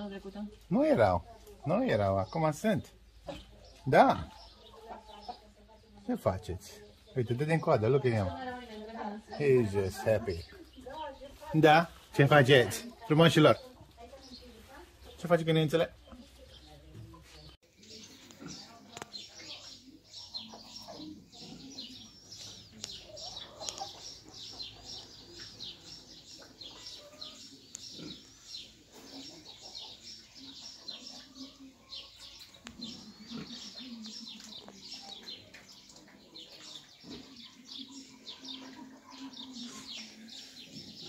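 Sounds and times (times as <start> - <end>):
farmyard animal calls: 0.0 - 41.0
small birds chirping: 0.0 - 41.0.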